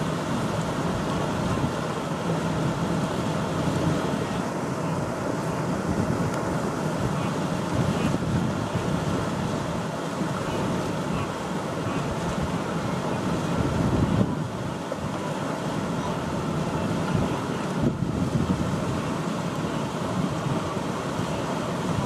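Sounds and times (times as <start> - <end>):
churning water rushing: 0.0 - 22.0
herd splashing across river: 0.0 - 22.0.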